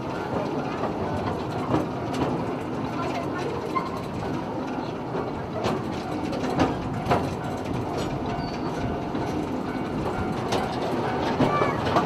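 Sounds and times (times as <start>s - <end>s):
rumble of wheels on rail: 0.0s - 12.0s.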